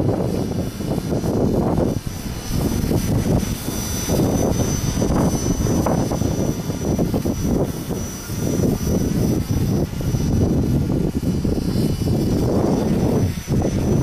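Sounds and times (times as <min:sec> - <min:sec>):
rc helicopter high-pitched whine: 0:00.0 - 0:14.0
wind buffeting microphone: 0:00.0 - 0:14.0.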